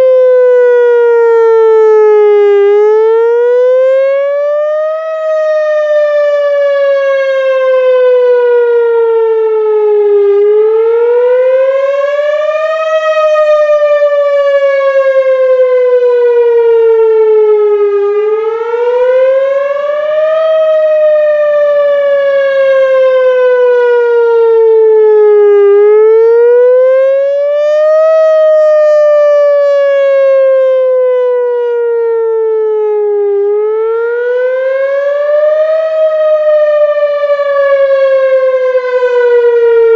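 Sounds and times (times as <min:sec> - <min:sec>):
wailing warning siren: 0:00.0 - 0:39.9.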